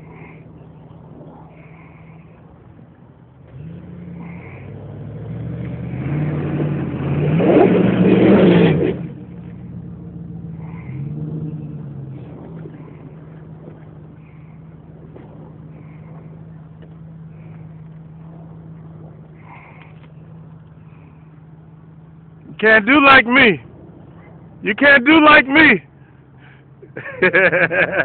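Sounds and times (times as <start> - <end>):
engine revving under load: 3.4 - 26.6.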